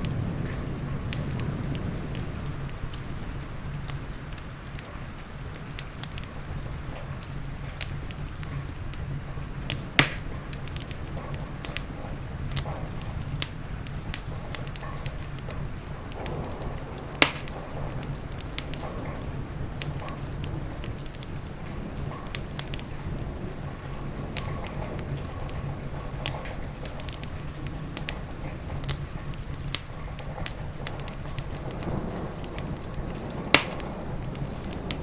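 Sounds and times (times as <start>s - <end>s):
fire popping: 0.0s - 35.0s
wood fire crackling: 0.0s - 35.0s.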